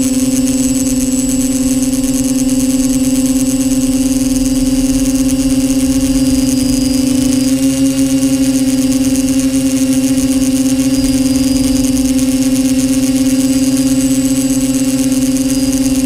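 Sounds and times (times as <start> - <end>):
drone motors humming: 0.0 - 16.0
high propeller hiss: 0.0 - 16.0.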